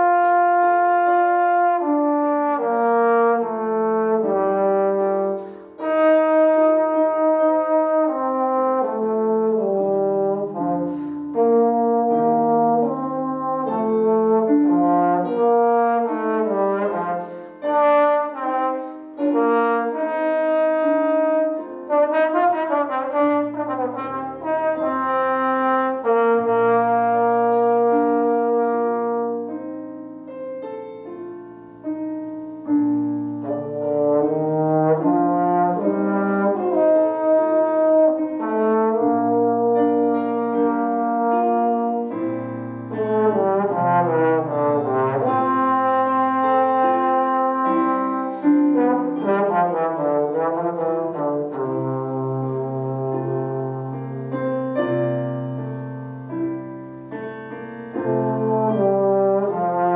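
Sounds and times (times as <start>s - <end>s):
trombone playing classical solo: 0.0s - 31.0s, 31.7s - 59.9s.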